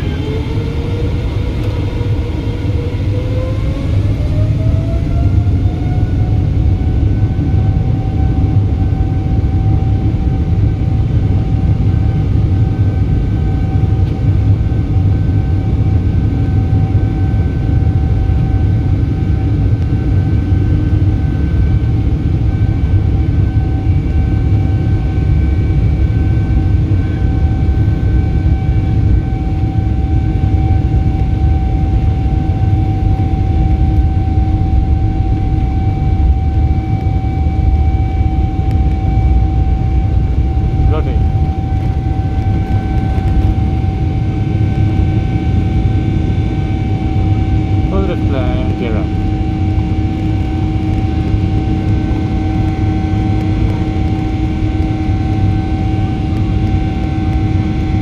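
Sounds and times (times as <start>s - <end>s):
jet engine whine: 0.0s - 58.0s
loud low engine rumble: 0.0s - 58.0s.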